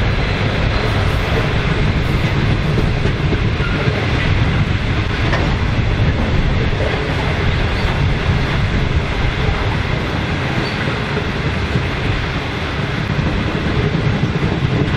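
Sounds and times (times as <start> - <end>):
freight train wagons rolling past: 0.0 - 14.9.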